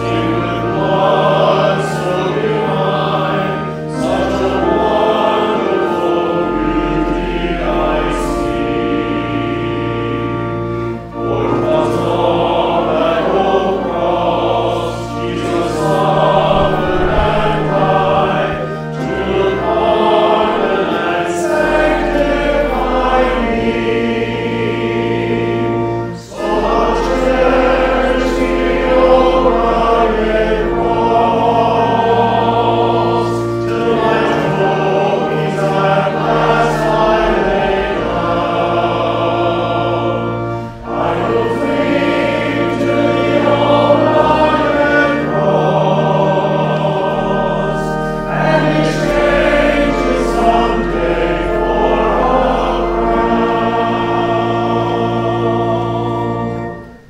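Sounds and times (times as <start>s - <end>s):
congregation singing a hymn: 0.0s - 57.0s
long-held bass notes: 0.0s - 57.0s.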